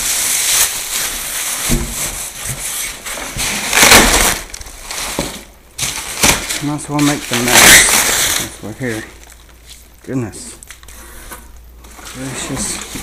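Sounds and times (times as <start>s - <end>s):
cardboard and foam rustling: 0.0s - 9.9s, 10.7s - 13.0s.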